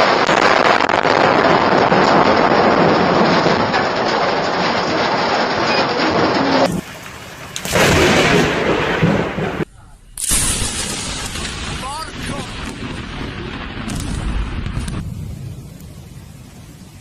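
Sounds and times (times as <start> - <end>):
heavy rain: 0.0 - 9.7, 10.4 - 17.0
rolling thunder: 0.0 - 17.0.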